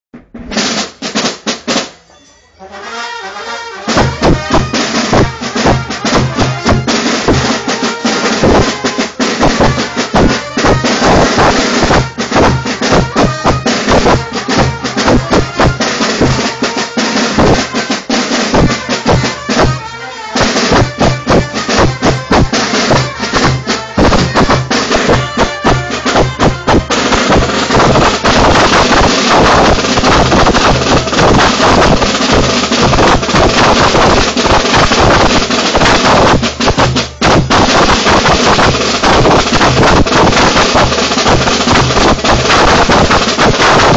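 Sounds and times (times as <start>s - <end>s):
drums played with sticks: 0.1s - 2.1s, 3.6s - 43.9s.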